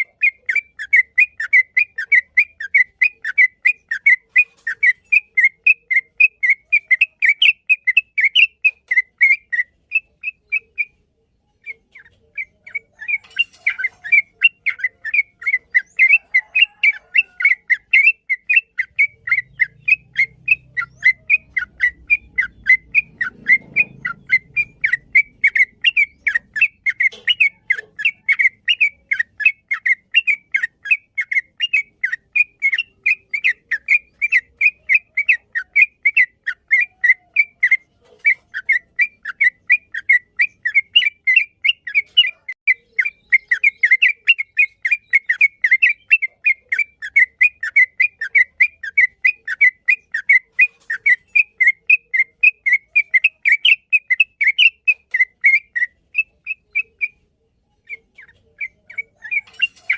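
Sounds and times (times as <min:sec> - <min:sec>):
bird singing rapid whistled notes: 0:00.0 - 0:59.9.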